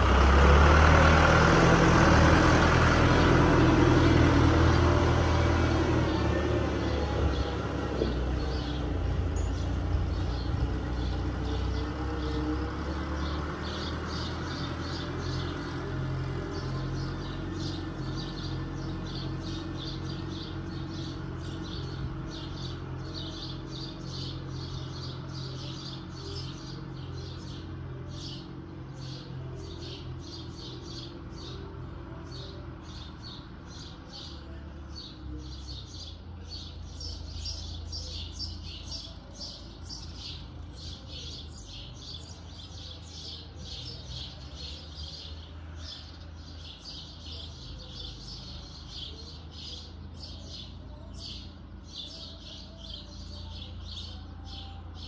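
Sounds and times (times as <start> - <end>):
tractor diesel engine humming: 0.0 - 55.0
bird chirping: 3.1 - 55.0.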